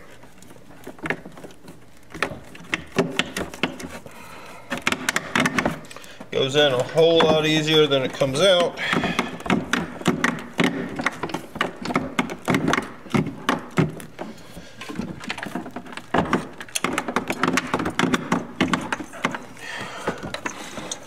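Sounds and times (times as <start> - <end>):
plastic hose clicking and rubbing: 0.0 - 21.0.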